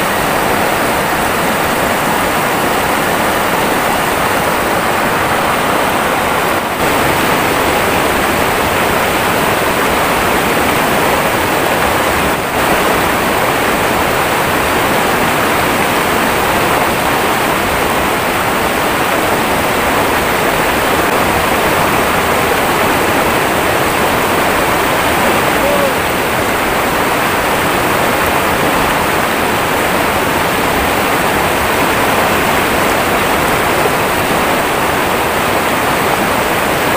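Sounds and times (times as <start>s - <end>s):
water rushing over rocks: 0.0s - 36.9s.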